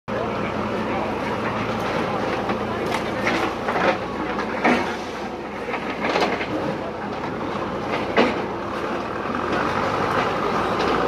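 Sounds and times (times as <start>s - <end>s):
diesel engines running: 0.1s - 11.0s.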